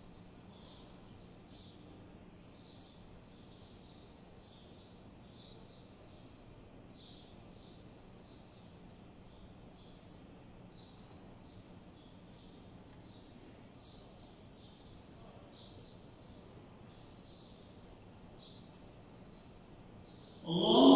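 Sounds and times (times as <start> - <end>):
faint low background hum: 0.0 - 20.9
small birds chirping: 0.0 - 20.9.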